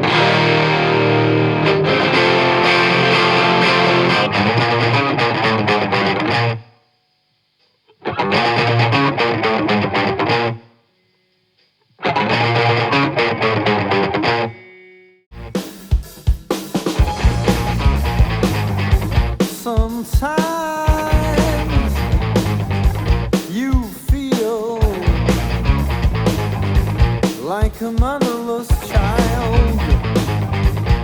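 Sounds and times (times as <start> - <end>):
distorted electric guitar: 0.0 - 6.9, 7.8 - 11.2, 11.9 - 16.0, 16.7 - 31.0.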